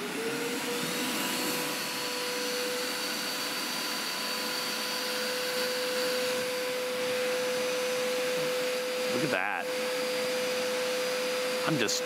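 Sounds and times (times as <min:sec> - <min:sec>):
carpet cleaner suction motor whining: 0:00.0 - 0:12.0.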